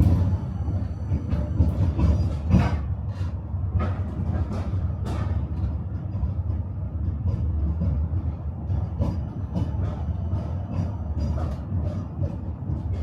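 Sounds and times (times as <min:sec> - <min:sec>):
tram rumbling on rails: 0:00.0 - 0:13.0.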